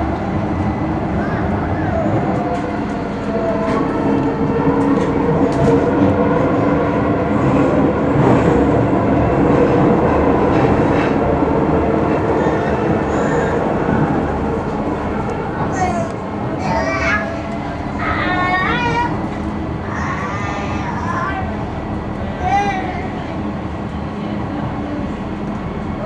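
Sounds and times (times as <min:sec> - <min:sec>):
train motor hum: 0:00.0 - 0:26.0
train wheels rumbling on rail: 0:00.0 - 0:26.0.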